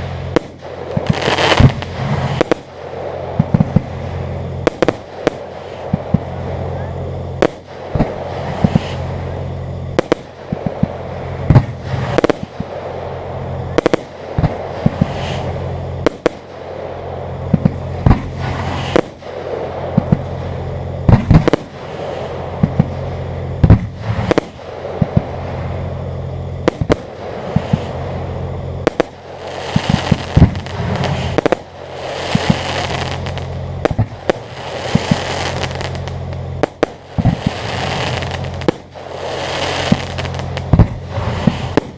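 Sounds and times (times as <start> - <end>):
fireworks bursting: 0.0 - 41.9
fireworks crackling: 0.0 - 41.9
low hum: 0.0 - 41.9.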